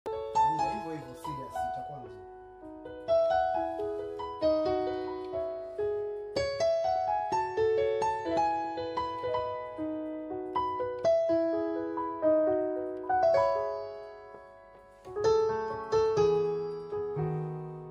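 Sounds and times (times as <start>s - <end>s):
piano melody over chords: 0.0s - 17.9s.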